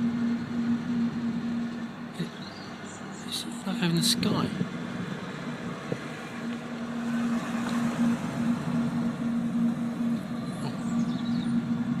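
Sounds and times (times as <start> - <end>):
distant traffic: 0.0 - 12.0
steady low hum: 0.0 - 12.0.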